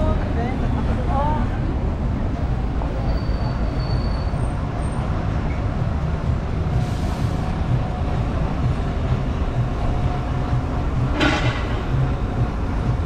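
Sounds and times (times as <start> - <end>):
bus running close by: 0.0 - 13.0
street traffic rumble: 0.0 - 13.0.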